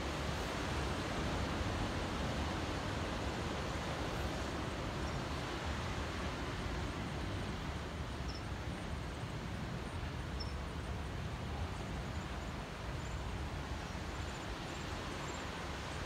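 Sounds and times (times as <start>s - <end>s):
distant ocean surf: 0.0s - 16.0s.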